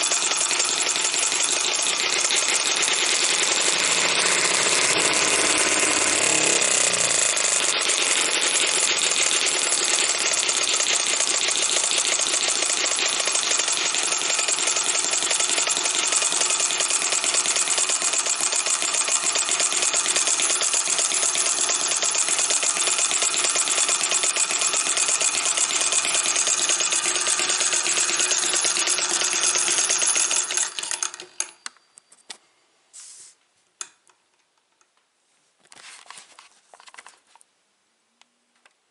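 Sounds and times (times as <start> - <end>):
model engine running fast: 0.0 - 31.2.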